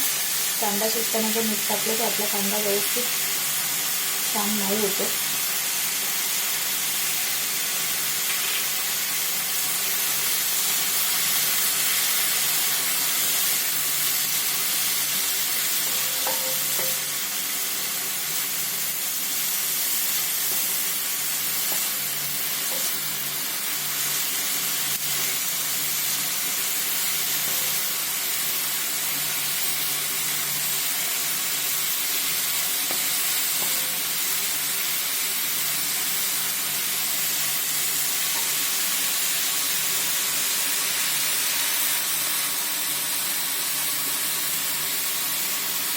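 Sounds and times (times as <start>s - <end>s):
onions sizzling in hot oil: 0.0s - 45.9s.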